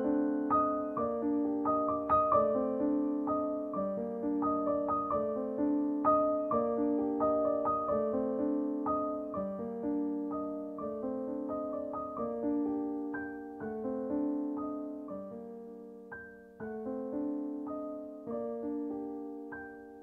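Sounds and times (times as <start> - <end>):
soft piano melody: 0.0 - 20.0.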